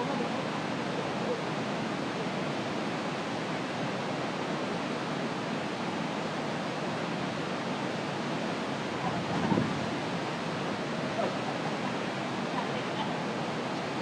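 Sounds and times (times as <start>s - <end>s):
waterfall roar: 0.0s - 14.0s.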